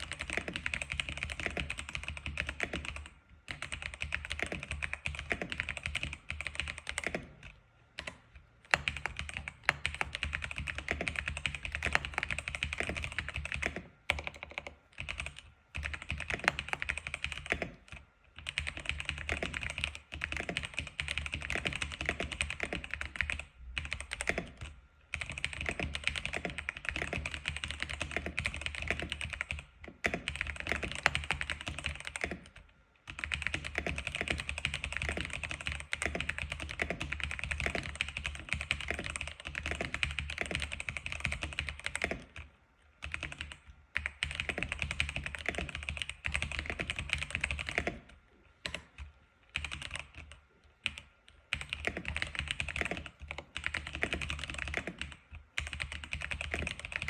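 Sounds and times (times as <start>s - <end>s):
keyboard typing: 0.0s - 57.0s.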